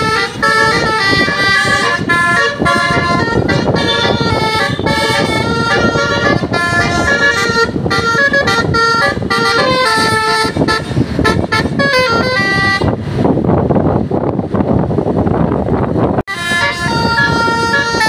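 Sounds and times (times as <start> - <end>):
bus horn playing melody: 0.0 - 13.1, 16.3 - 18.0
loud noisy rumble: 0.0 - 18.0.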